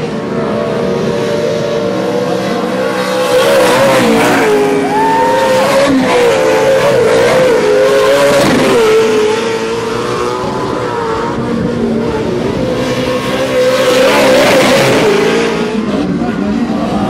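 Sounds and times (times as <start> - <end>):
race truck engines revving: 0.0 - 17.0.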